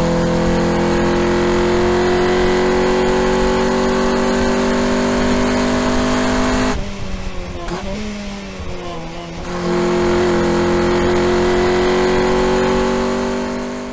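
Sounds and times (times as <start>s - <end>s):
car engine at high revs: 0.0s - 13.9s.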